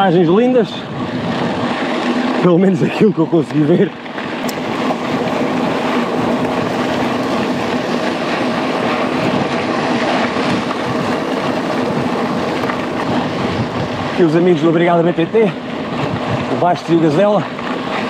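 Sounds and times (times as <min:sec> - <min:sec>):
bike tyre noise: 0:00.0 - 0:18.0
wind on microphone: 0:00.0 - 0:18.0.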